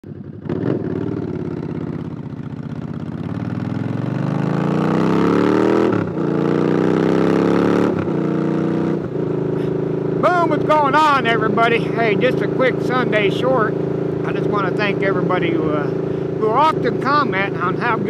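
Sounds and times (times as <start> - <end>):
motorcycle accelerating hard: 0.0 - 18.0.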